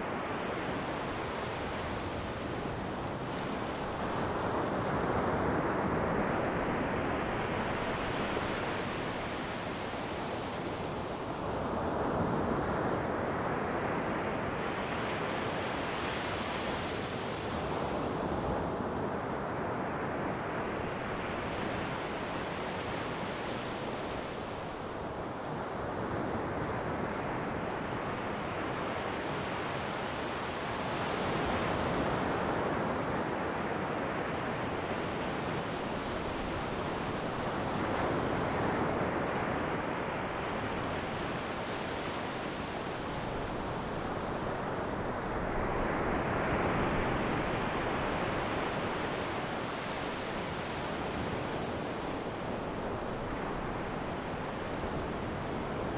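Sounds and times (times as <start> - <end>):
ocean waves breaking on shore: 0.0 - 55.9.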